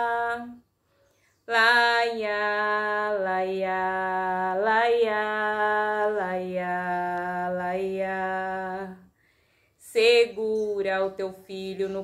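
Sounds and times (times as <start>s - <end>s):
woman singing a cappella: 0.0s - 0.7s, 1.4s - 9.2s, 9.8s - 12.0s.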